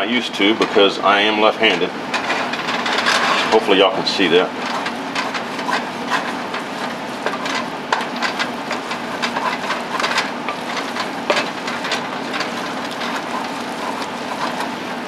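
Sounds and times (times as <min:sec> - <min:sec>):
grease sizzling in a pot: 0:00.0 - 0:15.0
wooden spoon scraping a pot: 0:00.3 - 0:15.0.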